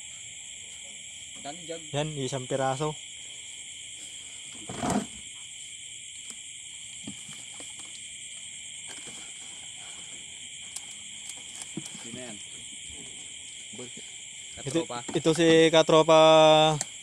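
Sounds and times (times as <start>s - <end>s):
night insects shrilling: 0.0s - 17.0s.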